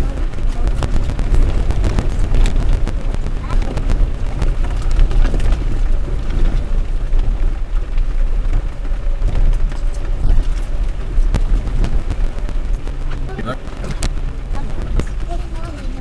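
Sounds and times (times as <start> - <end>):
sharp ticks: 0.0 - 16.0
vehicle low rumble: 0.0 - 16.0.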